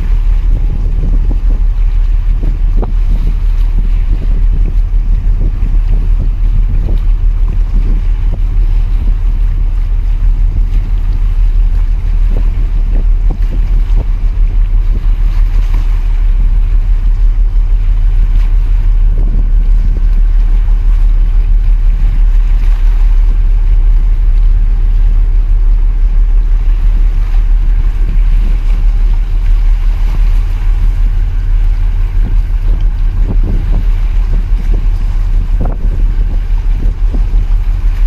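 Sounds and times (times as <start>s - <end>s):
ship low rumble: 0.0s - 38.0s
water washing: 0.0s - 38.0s
wind buffeting microphone: 0.0s - 38.0s.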